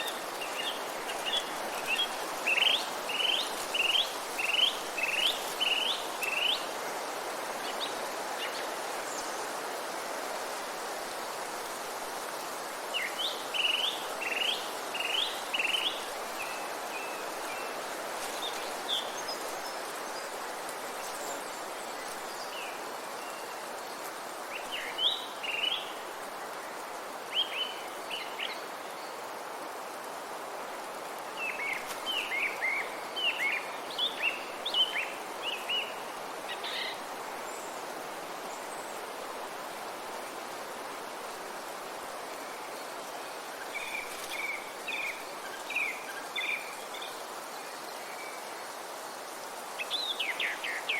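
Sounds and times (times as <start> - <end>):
forest ambience rush: 0.0 - 50.9.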